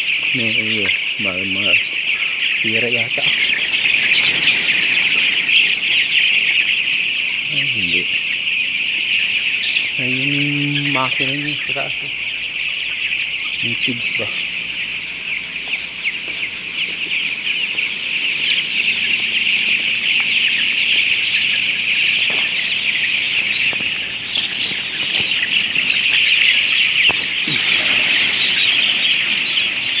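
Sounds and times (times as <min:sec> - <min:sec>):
chickens peeping and chirping: 0:00.0 - 0:30.0.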